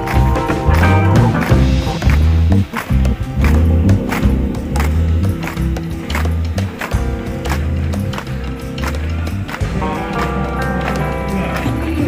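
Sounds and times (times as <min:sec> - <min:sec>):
music with heavy bass: 0:00.0 - 0:12.0.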